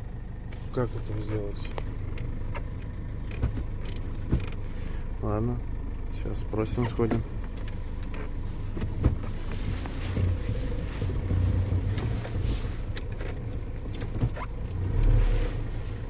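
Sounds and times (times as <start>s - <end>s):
van engine running: 0.0s - 16.0s.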